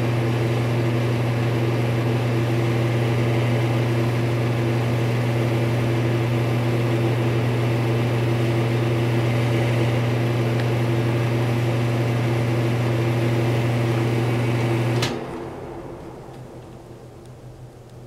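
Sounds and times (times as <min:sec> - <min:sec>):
heater fan humming: 0:00.0 - 0:18.0.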